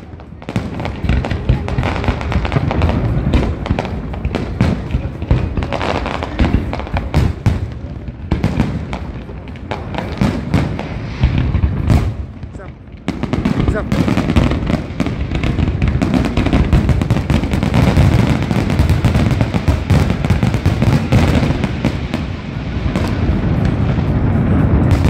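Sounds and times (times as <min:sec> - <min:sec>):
fireworks bangs and crackles: 0:00.0 - 0:25.0
low firework booms: 0:00.0 - 0:25.0.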